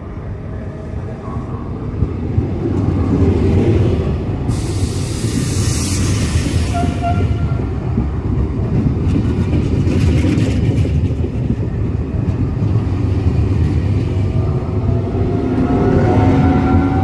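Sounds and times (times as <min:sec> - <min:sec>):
train wheels rumbling: 0:00.8 - 0:17.0.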